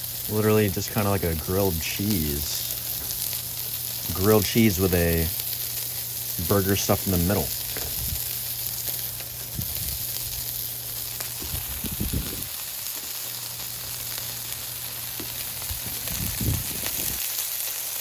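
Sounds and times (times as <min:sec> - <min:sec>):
food sizzling on a griddle: 0:00.0 - 0:18.0.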